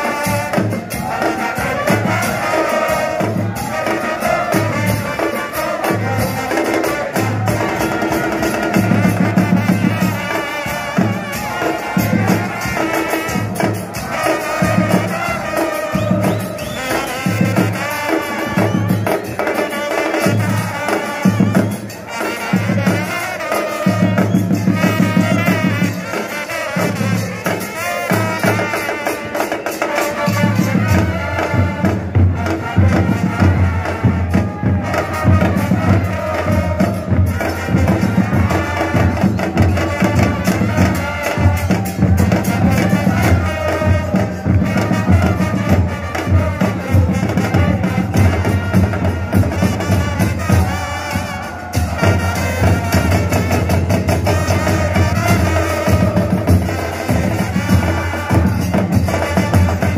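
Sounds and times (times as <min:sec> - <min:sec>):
crowd singing a chant: 0:00.0 - 0:59.9
steady drumming: 0:00.0 - 0:59.9.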